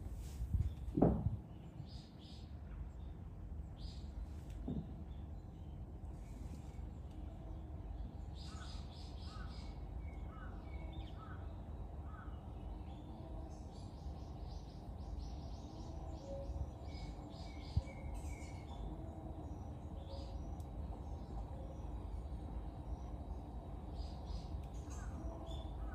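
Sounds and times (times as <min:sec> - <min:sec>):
low outdoor rumble: 0:00.0 - 0:25.9.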